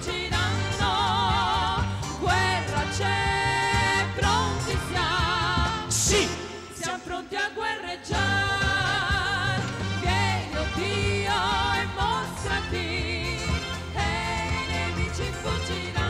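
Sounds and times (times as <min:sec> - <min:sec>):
bass guitar: 0:00.0 - 0:06.9, 0:08.1 - 0:16.0
drum kit: 0:00.0 - 0:07.0, 0:08.1 - 0:16.0
women singing gospel: 0:00.0 - 0:16.0.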